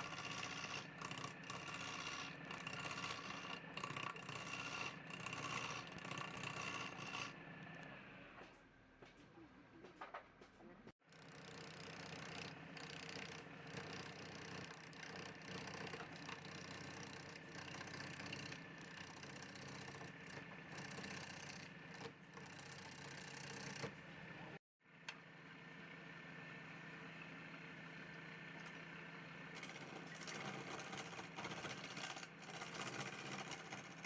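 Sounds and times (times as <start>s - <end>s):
wood lathe motor hum: 0.0s - 8.1s, 11.2s - 24.6s, 27.4s - 34.0s.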